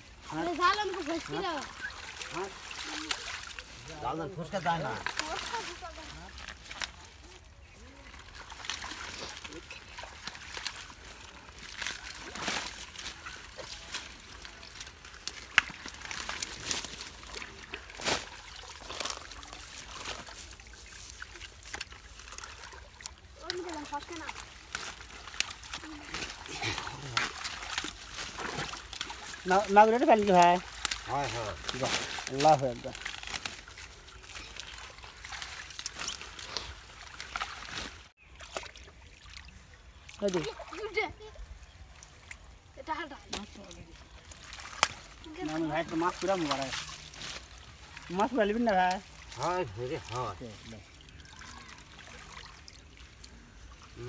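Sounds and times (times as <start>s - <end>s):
muddy water sloshing: 0.0s - 54.0s
sharp water splashes: 0.0s - 54.0s
wet plants and net rustling: 0.0s - 54.0s.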